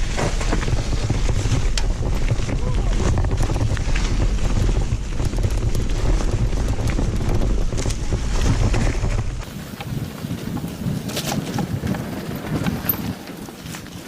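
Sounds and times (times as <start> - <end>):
low rumble: 0.0 - 13.0
bike rattling and clicking: 0.0 - 14.0
wind buffeting microphone: 0.0 - 14.0.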